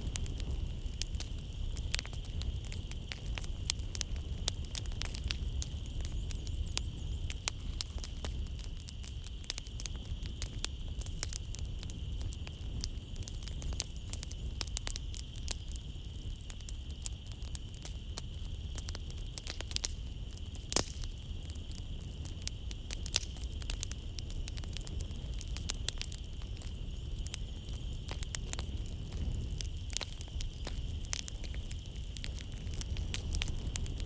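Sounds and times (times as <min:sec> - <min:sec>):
night insects chirring: 0:00.0 - 0:34.0
wood fire crackling and popping: 0:00.0 - 0:34.0.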